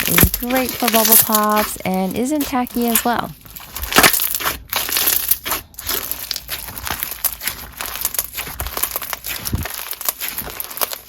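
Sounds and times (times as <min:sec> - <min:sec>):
slime beads crunchy crackling: 0:00.0 - 0:11.0.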